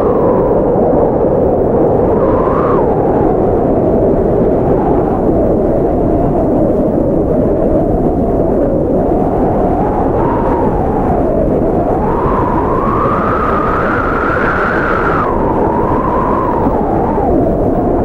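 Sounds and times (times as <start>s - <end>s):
howling blizzard wind: 0.0s - 18.0s.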